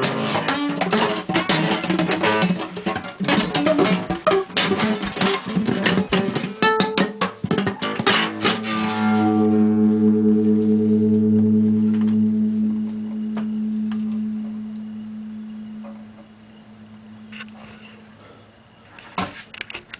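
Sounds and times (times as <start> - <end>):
fingerstyle nylon-string guitar: 0.0 - 17.5.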